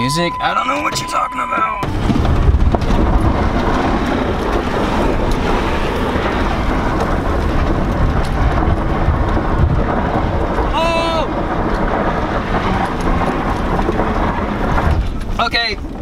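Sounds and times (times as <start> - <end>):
engine running under load: 0.0 - 16.0
tyres churning dirt: 0.0 - 16.0.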